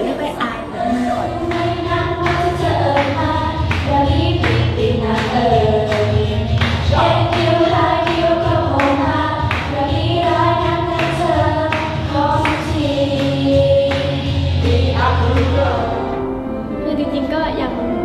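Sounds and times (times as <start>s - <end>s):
women singing into microphones: 0.0s - 16.2s
pop backing track with beat: 0.0s - 16.4s.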